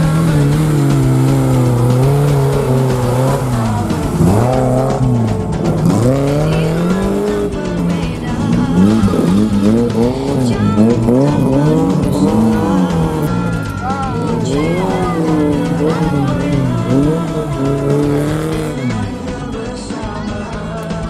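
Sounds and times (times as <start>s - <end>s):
background music: 0.0s - 21.0s
off-road engines revving: 0.0s - 21.0s.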